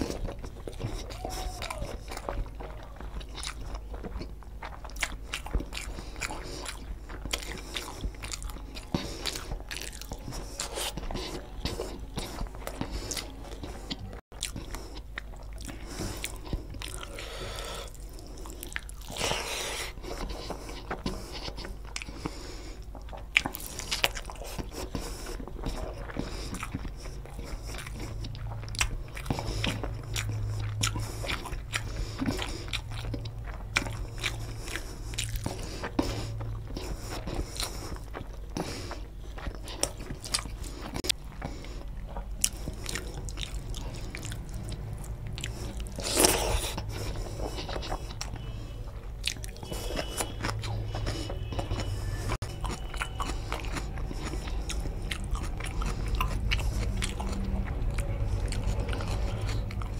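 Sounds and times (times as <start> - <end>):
wet chewing mouth sounds: 0.0 - 59.9.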